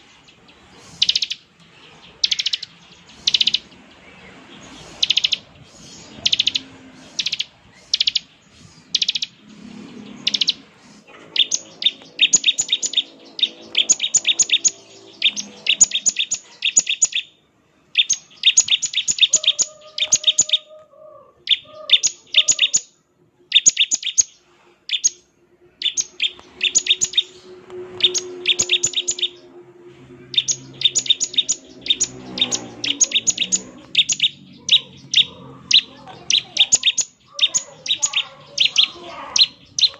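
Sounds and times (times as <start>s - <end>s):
bird high chirps: 0.2s - 39.9s.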